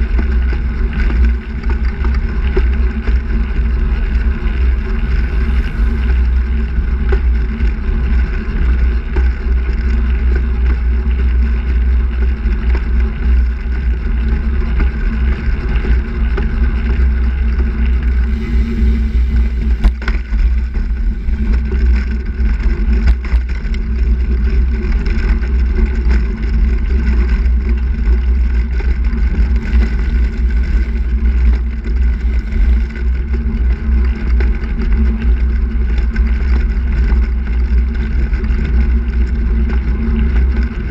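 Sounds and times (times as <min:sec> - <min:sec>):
road rumble: 0:00.0 - 0:40.9
wind buffeting microphone: 0:00.0 - 0:40.9.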